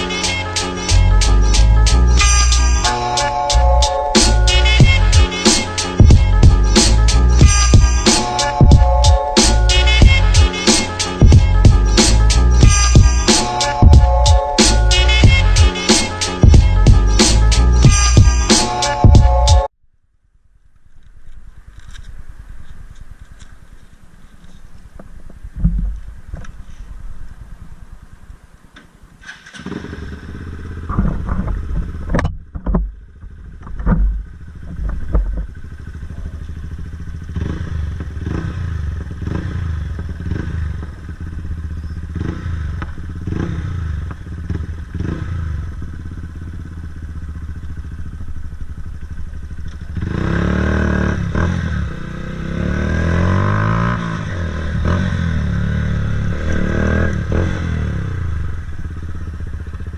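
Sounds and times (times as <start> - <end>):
motorcycle engine revving: 0.0 - 19.7, 29.2 - 59.9.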